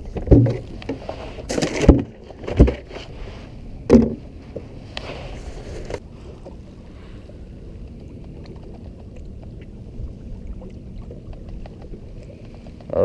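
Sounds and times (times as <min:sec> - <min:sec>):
low rumble of water: 0:00.0 - 0:13.0
wind around a boat: 0:00.0 - 0:13.0.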